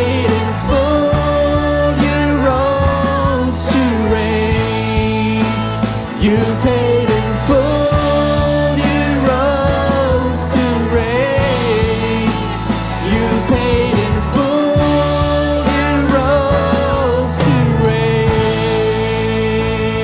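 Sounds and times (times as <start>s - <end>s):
people singing: 0.0s - 20.0s
worship band playing slow song: 0.0s - 20.0s.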